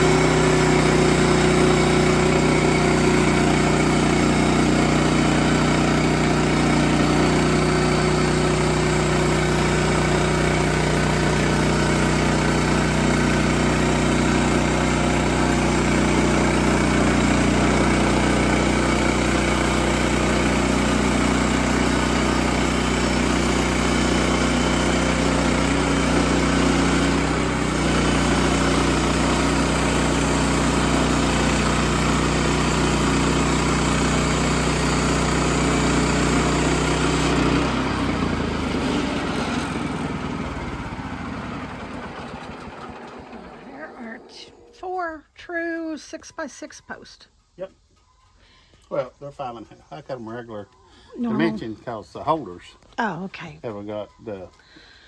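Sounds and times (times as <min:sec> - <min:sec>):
sawmill engine running: 0:00.0 - 0:45.4.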